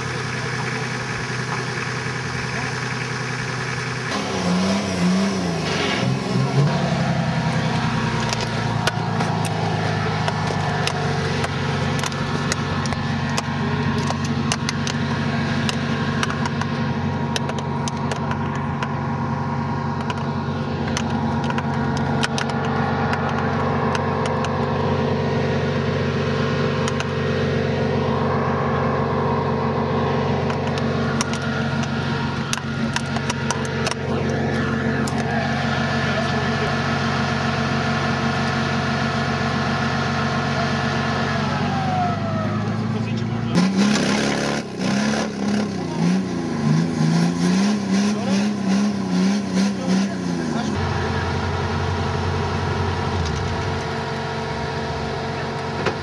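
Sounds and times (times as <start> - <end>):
engine running and revving: 0.0 - 56.0.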